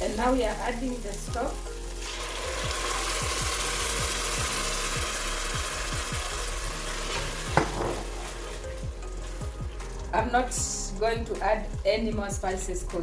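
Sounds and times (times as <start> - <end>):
sauce sizzling in a pan: 0.0 - 12.4.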